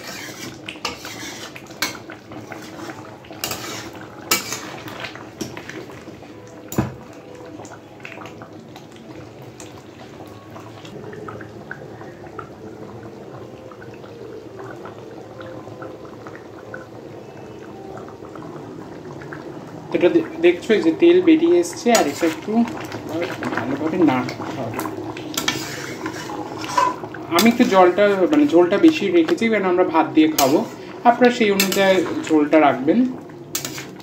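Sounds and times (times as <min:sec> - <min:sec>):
curry bubbling in a pan: 0:00.0 - 0:34.0.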